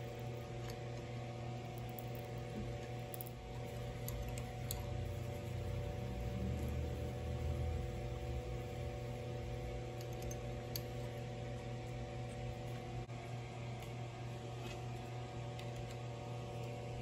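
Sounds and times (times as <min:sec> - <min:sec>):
mechanical hum of shop: 0:00.0 - 0:17.0.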